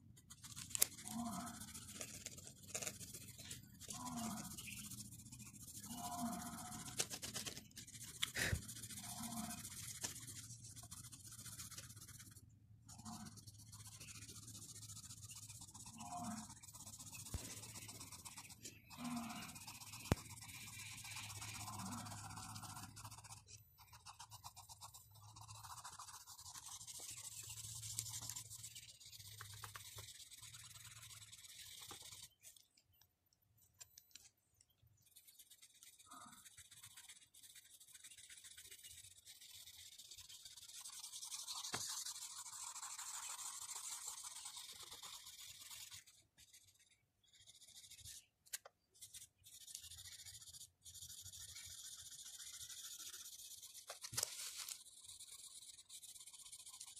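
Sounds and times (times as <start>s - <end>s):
pencil scratching on paper: 0.0s - 32.6s, 35.0s - 48.3s, 49.0s - 56.9s.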